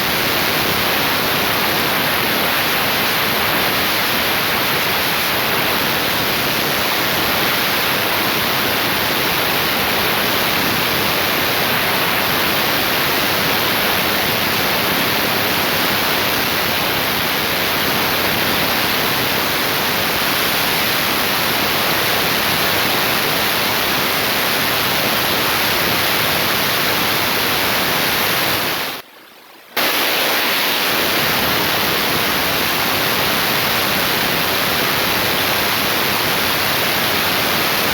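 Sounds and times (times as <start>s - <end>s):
heavy rain pouring: 0.0s - 29.0s, 29.8s - 37.9s.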